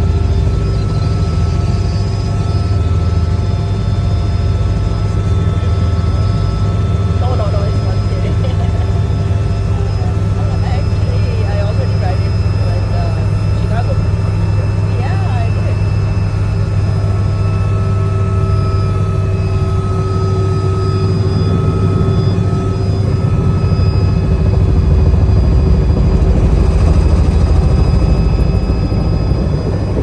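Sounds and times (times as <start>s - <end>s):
helicopter rotor drone: 0.0s - 30.0s
steady whining tones: 0.0s - 30.0s.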